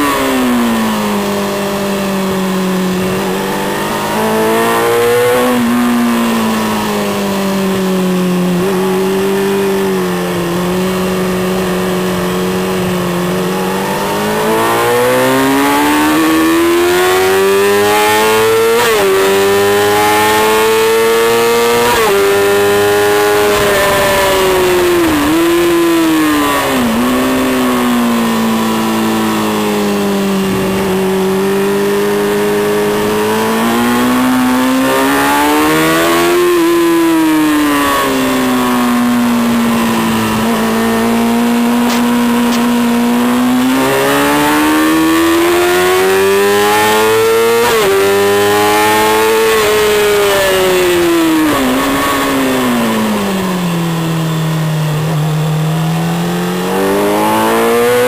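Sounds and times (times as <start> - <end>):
racing motorcycle engine revving: 0.0 - 58.0.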